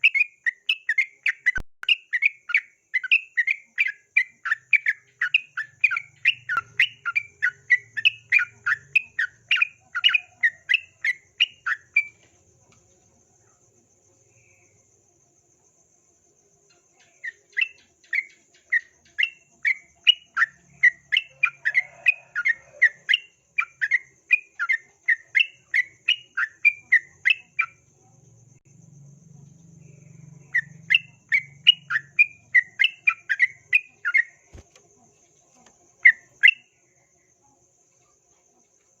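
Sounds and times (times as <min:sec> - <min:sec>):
bird chirping: 0:00.0 - 0:15.0, 0:15.7 - 0:39.0.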